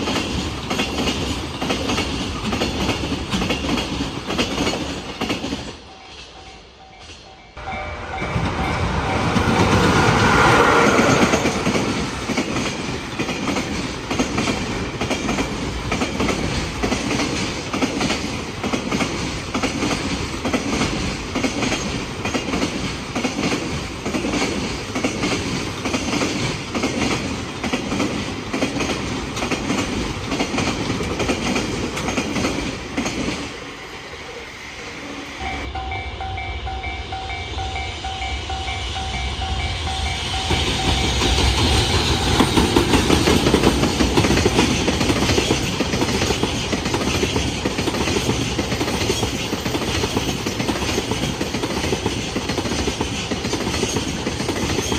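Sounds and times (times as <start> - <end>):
freight train passing: 0.0 - 54.9.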